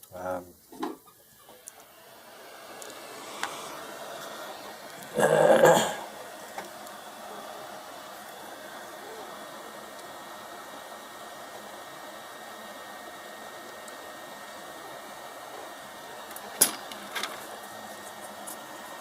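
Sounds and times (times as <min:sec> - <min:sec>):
fan airy hiss: 0:00.0 - 0:19.0.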